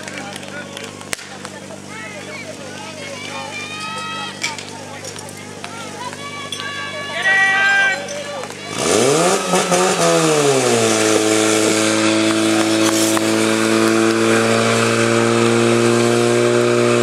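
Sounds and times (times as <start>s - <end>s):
fire pump engine revving: 0.0s - 17.0s.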